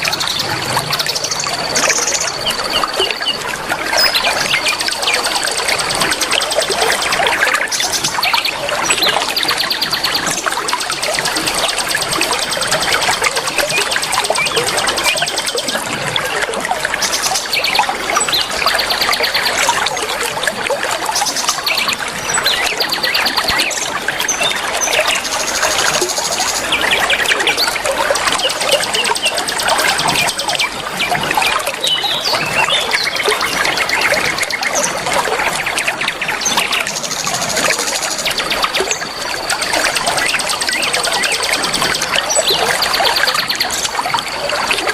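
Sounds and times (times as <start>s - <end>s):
songbirds chirping and trilling: 0.0s - 44.9s
trickle of running water: 0.0s - 44.9s.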